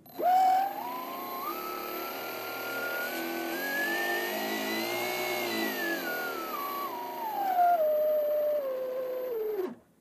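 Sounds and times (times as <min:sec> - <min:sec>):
electric motor whining: 0:00.0 - 0:09.8.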